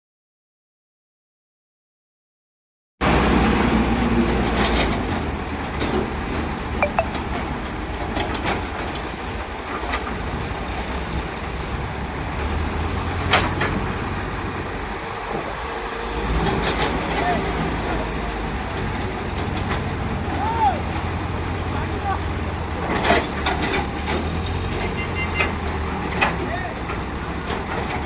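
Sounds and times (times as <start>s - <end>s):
diesel engine rumbling: 3.0s - 28.0s.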